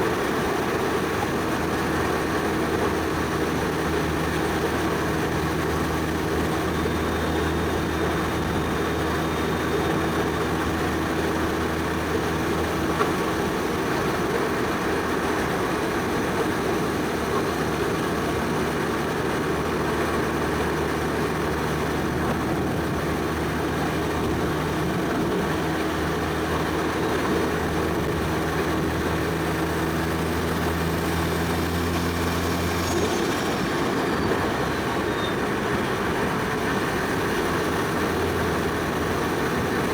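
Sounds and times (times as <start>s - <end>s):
car engine cruising: 0.0s - 39.9s
road noise: 0.0s - 39.9s.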